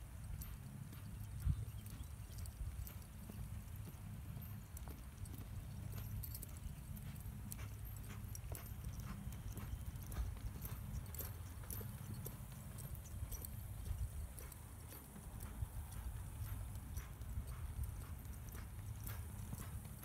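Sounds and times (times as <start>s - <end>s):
horse hoofbeats on dirt: 0.0s - 20.0s.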